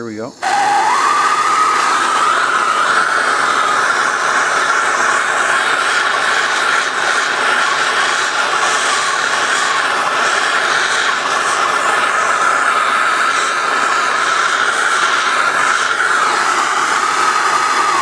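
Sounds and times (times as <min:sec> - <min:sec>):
gas torch hissing and whistling: 0:00.0 - 0:18.0.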